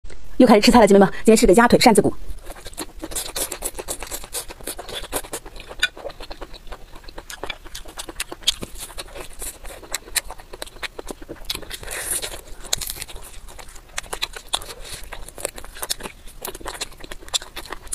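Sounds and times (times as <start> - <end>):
chewing crunches: 2.4 - 17.9.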